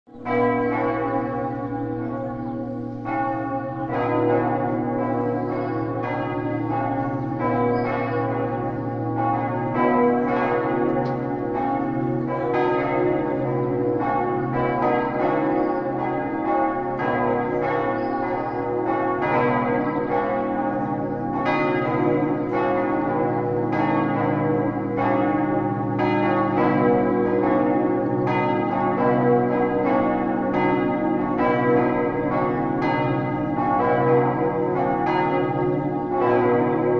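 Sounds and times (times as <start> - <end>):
church bells ringing: 0.1 - 36.9.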